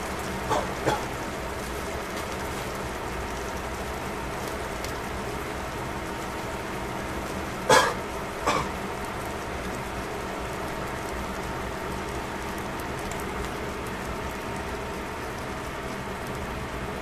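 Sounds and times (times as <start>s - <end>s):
fish sizzling on foil: 0.0s - 17.0s.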